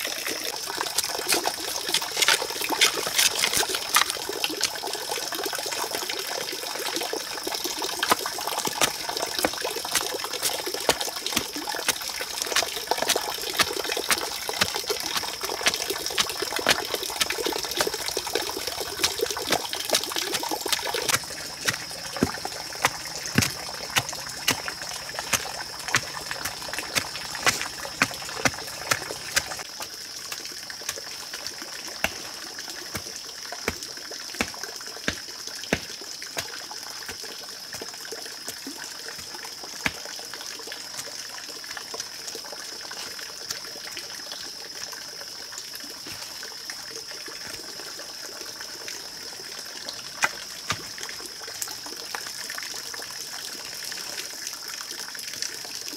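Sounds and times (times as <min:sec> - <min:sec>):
water trickling: 0:00.0 - 0:55.9.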